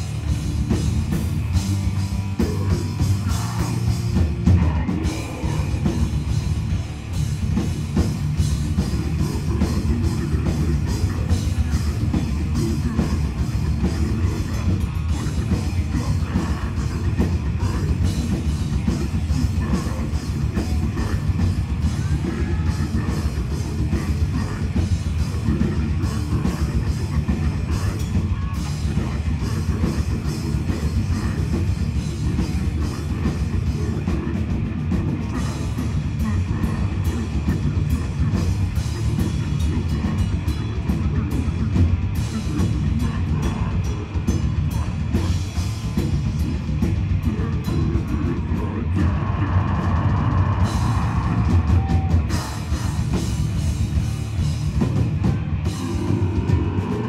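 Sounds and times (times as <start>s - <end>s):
bass guitar: 0.0s - 57.0s
distorted electric guitars: 0.0s - 57.0s
drum kit played fast: 0.0s - 57.0s.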